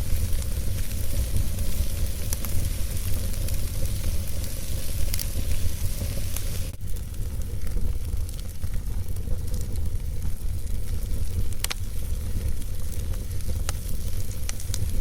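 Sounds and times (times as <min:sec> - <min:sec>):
burning logs crackling and popping: 0:00.0 - 0:15.0
fire rumbling and hissing: 0:00.0 - 0:15.0.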